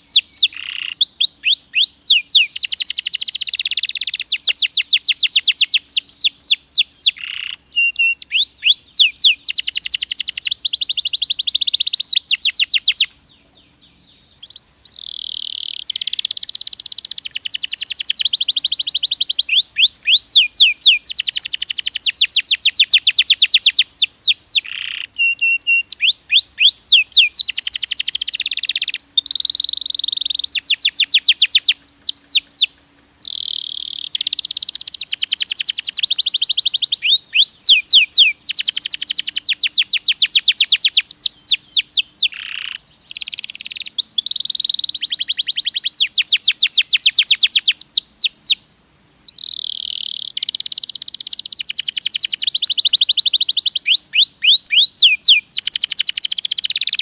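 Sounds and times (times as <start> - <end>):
canary singing trills: 0.0 - 48.6, 49.2 - 57.0.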